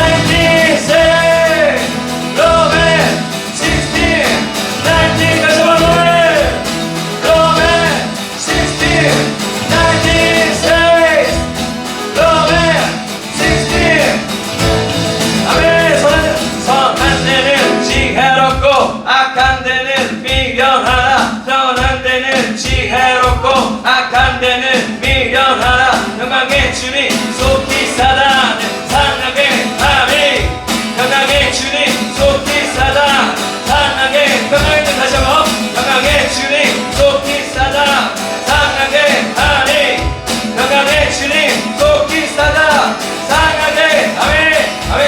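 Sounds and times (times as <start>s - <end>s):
person singing: 0.0s - 45.0s
steady drum beat: 0.0s - 45.0s
worship band music: 0.0s - 45.0s.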